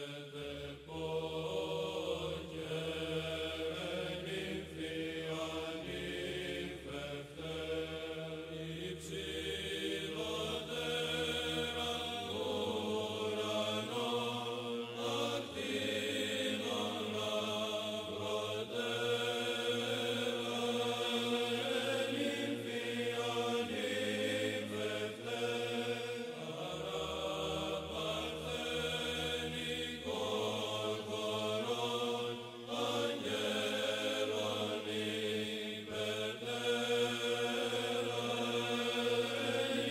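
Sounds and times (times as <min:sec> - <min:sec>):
voices chanting long notes: 0:00.0 - 0:39.9.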